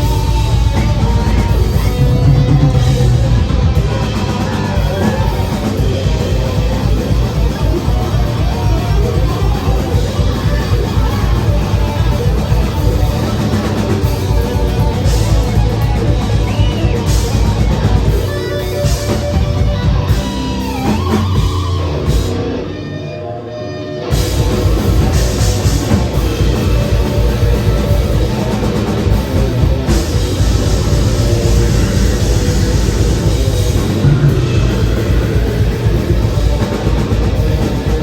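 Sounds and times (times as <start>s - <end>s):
death metal band playing live: 0.0s - 38.0s
guitar bending notes: 0.0s - 38.0s.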